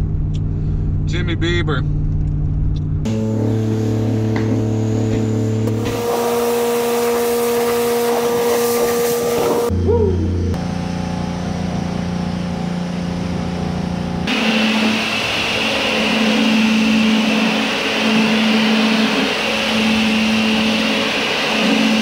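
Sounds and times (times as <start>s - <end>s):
pressure washer pump hum: 3.0s - 22.0s.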